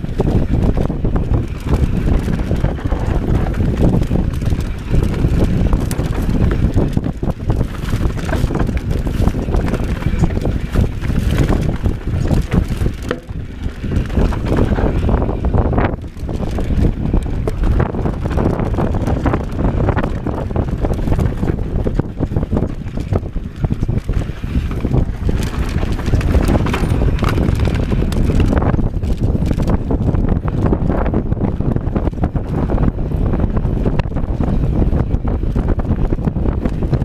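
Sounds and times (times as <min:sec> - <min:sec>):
bike rattling over bumps: 0:00.0 - 0:37.0
tyres rumbling on dirt: 0:00.0 - 0:37.0
wind noise on microphone: 0:00.0 - 0:37.0.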